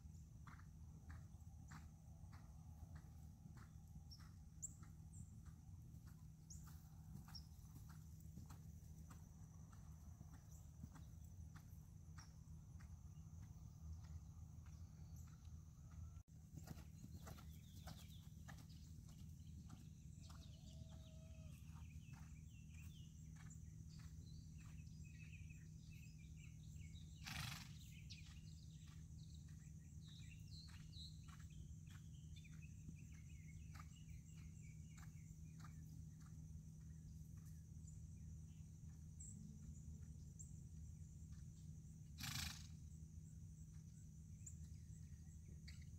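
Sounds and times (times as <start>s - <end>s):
horse trotting on sand: 0.0s - 40.4s
steady low hum: 0.0s - 45.9s.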